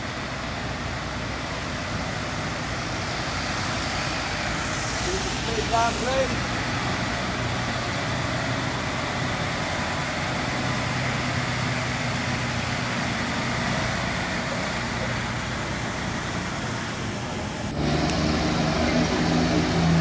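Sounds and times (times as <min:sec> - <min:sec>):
lorry diesel engine running: 0:00.0 - 0:20.0
tyre and road noise: 0:00.0 - 0:20.0.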